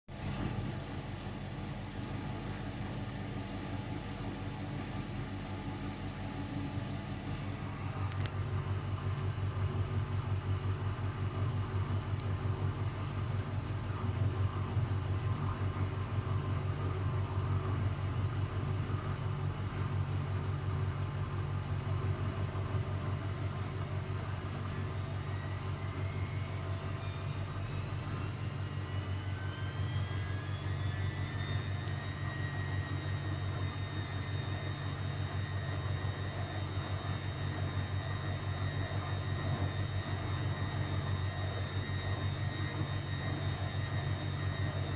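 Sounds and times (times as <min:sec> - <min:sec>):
washing machine spinning: 0:00.1 - 0:44.9
motor whine: 0:04.3 - 0:44.9.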